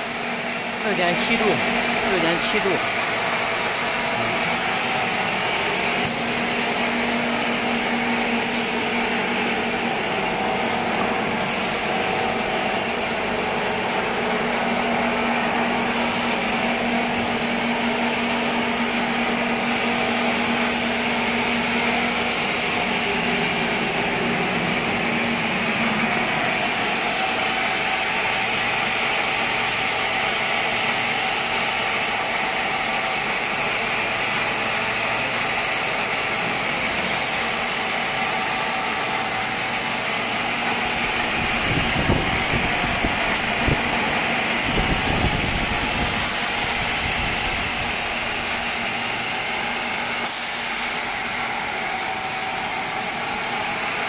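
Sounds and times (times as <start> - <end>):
washing machine hiss and hum: 0.0 - 54.0.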